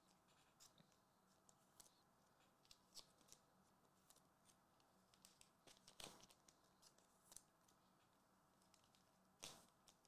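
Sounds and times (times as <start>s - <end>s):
cards rustling in plastic sleeves: 0.0s - 10.0s.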